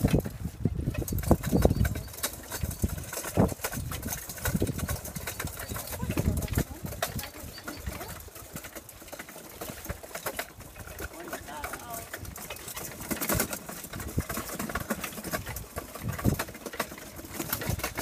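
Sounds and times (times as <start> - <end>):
cart and milk can rattling: 0.0 - 18.0.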